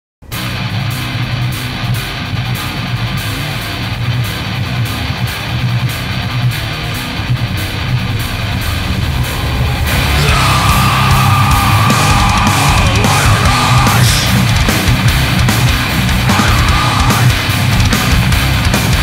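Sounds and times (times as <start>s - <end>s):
metal music with distorted guitars: 0.2s - 19.0s.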